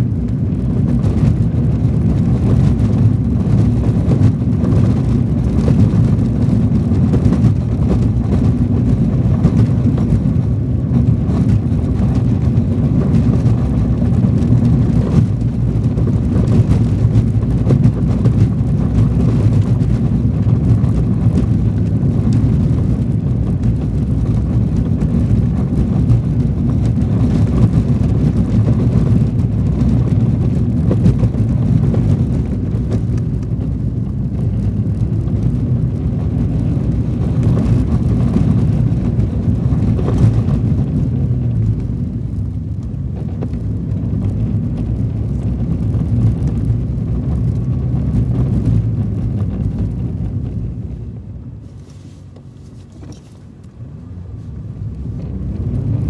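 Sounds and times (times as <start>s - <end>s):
car rumbling on dirt track: 0.0s - 56.0s.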